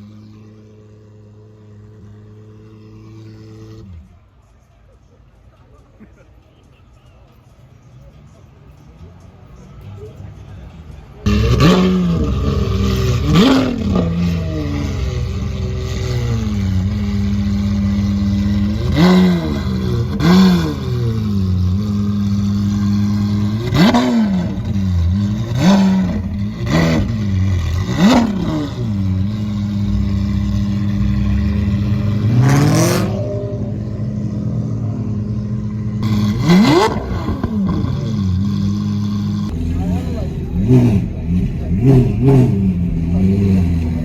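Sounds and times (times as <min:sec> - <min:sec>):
car engine idling and revving: 0:00.0 - 0:05.7, 0:06.6 - 0:44.0.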